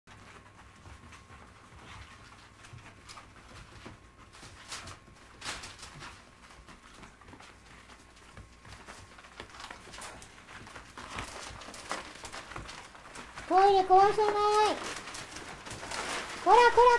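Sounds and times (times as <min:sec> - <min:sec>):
puppies pattering and scuffling: 0:00.1 - 0:16.9
newspaper rustling: 0:00.4 - 0:16.9.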